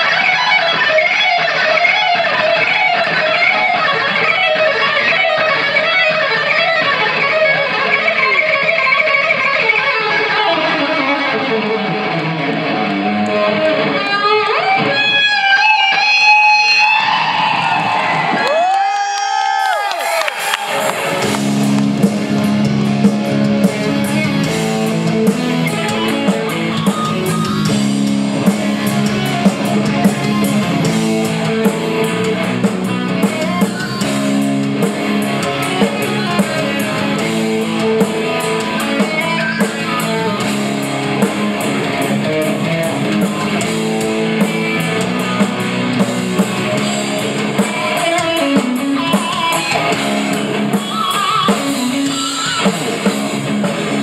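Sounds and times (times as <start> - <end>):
bass guitar: 0.0 - 18.9, 19.6 - 54.0
drums: 0.0 - 54.0
electric guitar solo: 0.0 - 54.0.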